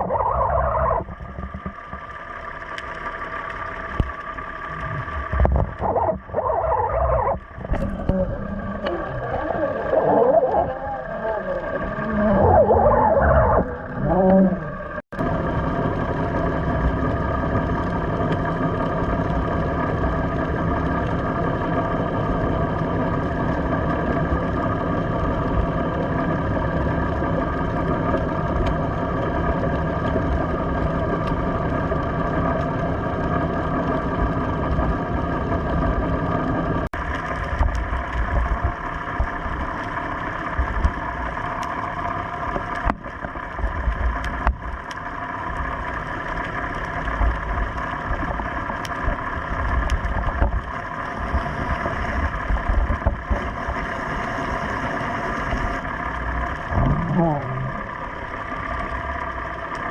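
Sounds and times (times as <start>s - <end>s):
low bumps and rumbles: 0.0s - 54.0s, 55.6s - 59.9s
boat engine idling: 0.0s - 59.9s.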